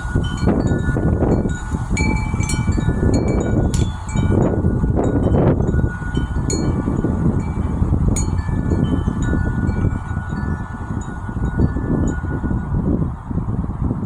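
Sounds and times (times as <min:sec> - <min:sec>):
wind chime ringing: 0:00.0 - 0:12.8
low rumble of wind: 0:00.0 - 0:14.0.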